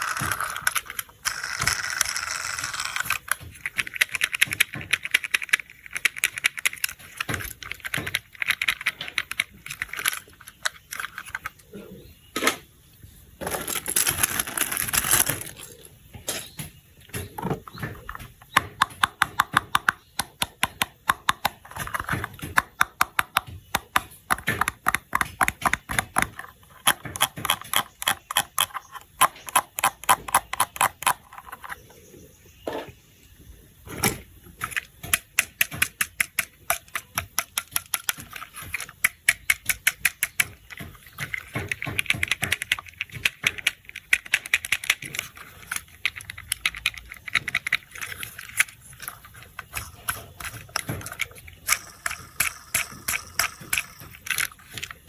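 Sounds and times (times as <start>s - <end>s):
small plastic clicks and taps: 0.0s - 11.6s, 16.3s - 31.8s, 33.9s - 55.0s.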